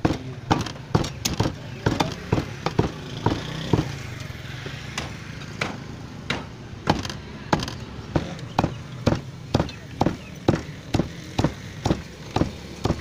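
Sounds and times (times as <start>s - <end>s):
cleaver chopping on wooden block: 0.0s - 4.0s, 4.9s - 13.0s.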